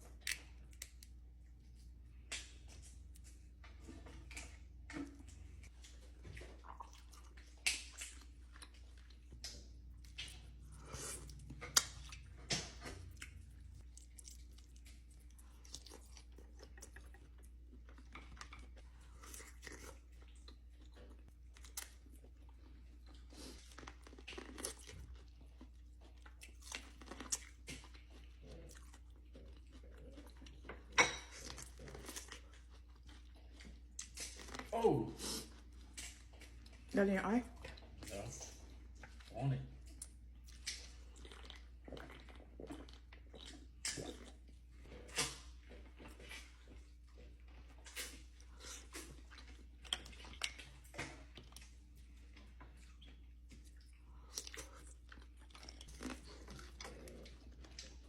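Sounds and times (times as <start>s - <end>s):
person chewing crunchy food: 0.0s - 36.9s, 37.6s - 58.0s.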